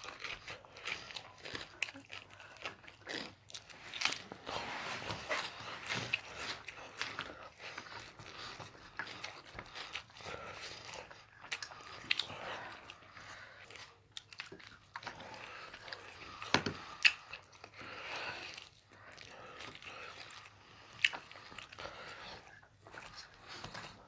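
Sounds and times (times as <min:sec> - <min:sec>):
food crunching while chewing: 0:00.0 - 0:24.0.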